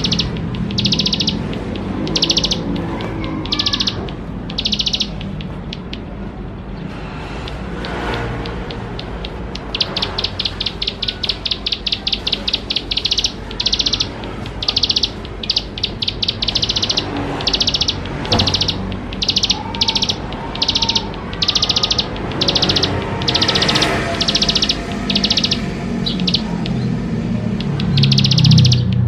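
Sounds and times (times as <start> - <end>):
bird singing trilled phrases: 0.0 - 6.2, 7.4 - 29.0.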